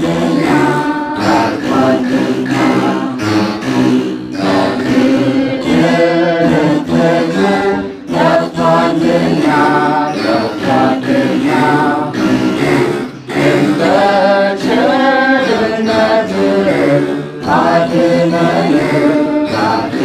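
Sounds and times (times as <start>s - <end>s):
men singing a hymn together: 0.0s - 20.0s.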